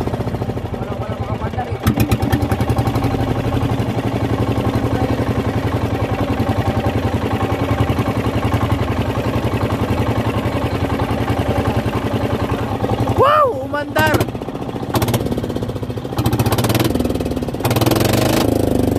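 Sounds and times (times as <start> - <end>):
small boat engine puttering: 0.0 - 18.9.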